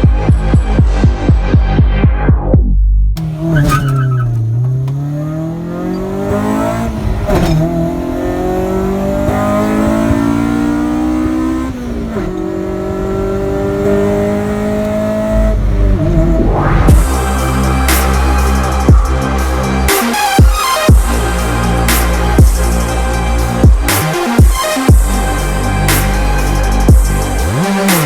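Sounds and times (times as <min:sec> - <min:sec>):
car engine accelerating: 0:03.2 - 0:28.0.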